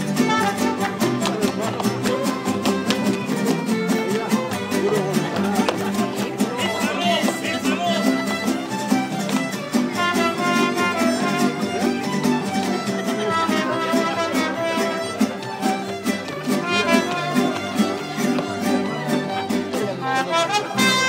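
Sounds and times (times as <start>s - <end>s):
guitars strumming: 0.0s - 21.0s
violins playing melody: 0.0s - 21.0s.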